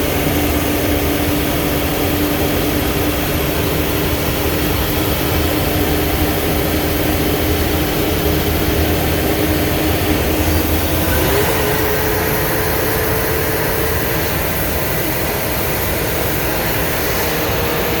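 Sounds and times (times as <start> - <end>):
bus engine and road noise: 0.0 - 18.0
thin whine: 0.0 - 18.0.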